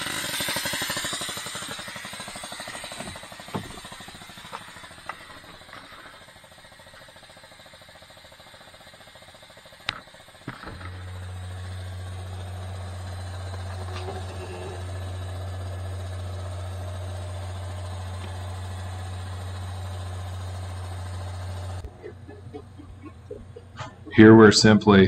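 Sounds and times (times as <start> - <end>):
pump motor humming: 0.0 - 24.6.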